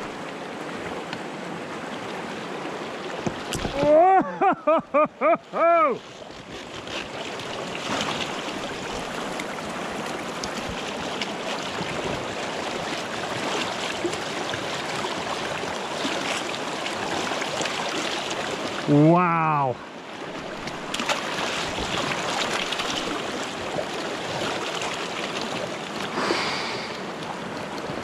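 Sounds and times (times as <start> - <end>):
river water rushing and splashing: 0.0 - 28.0.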